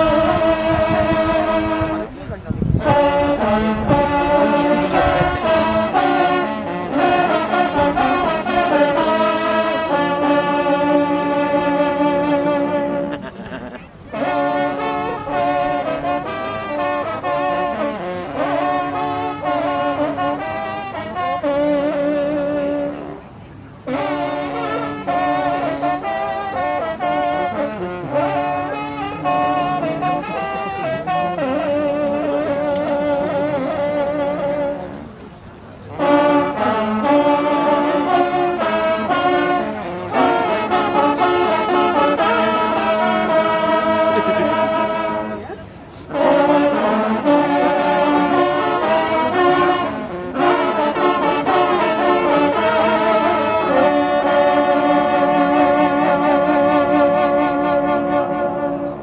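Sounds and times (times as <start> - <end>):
hunting horns playing fanfare: 0.0 - 59.0.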